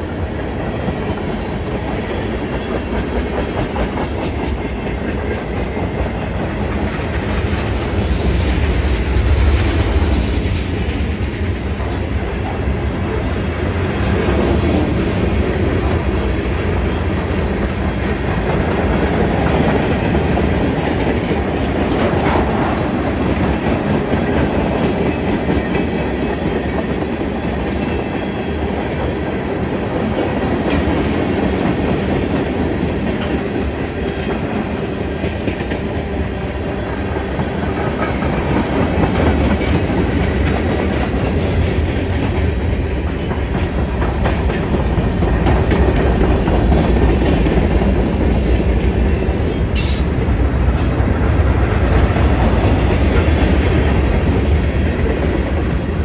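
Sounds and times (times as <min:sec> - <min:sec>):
steel wheels running over rails: 0:00.0 - 0:56.0.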